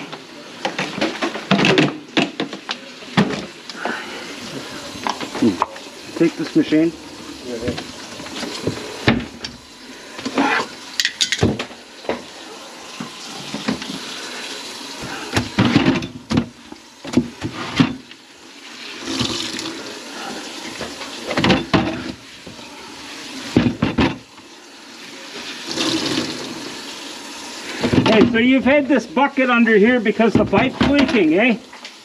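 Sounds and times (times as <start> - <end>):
water running into sink: 0.0 - 32.0.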